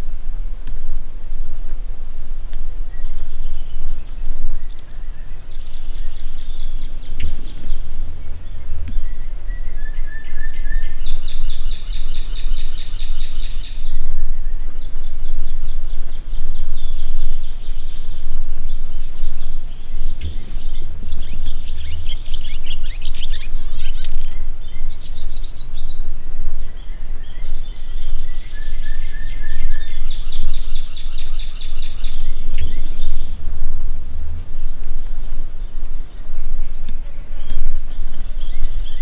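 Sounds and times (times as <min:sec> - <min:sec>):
songbirds chirping and trilling: 0:00.0 - 0:39.0
wind rumble on microphone: 0:00.0 - 0:39.0.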